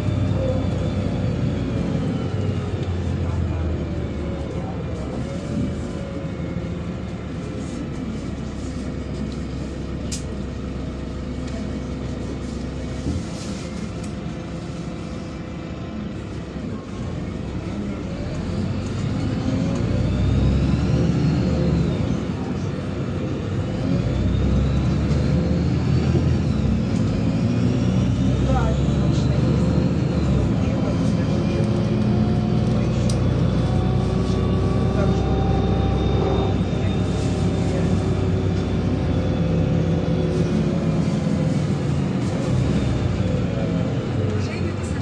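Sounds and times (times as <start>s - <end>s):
bus engine running: 0.0s - 45.0s.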